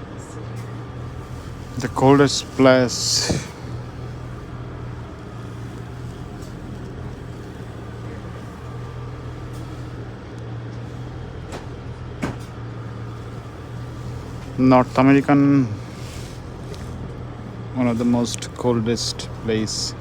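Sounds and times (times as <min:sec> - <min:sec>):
train rumbling inside carriage: 0:00.0 - 0:20.0.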